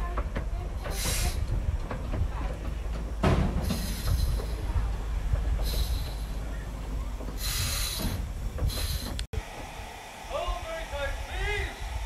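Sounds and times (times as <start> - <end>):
steam locomotive rumbling: 0.0 - 12.0
hissing steam puffs: 0.8 - 1.9, 3.4 - 12.0.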